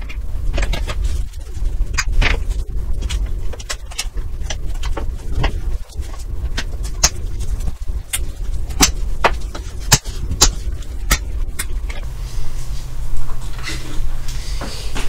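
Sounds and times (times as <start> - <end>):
low hum with hiss: 0.0 - 15.0
low rumble: 0.0 - 15.0.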